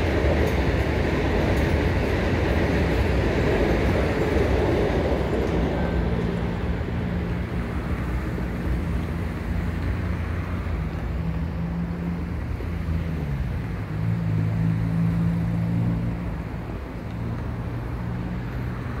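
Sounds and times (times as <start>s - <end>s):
car engines humming: 0.0s - 19.0s.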